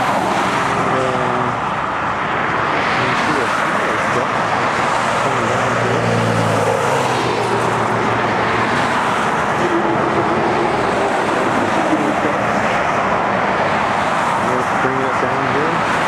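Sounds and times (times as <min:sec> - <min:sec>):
dense rushing noise: 0:00.0 - 0:16.0.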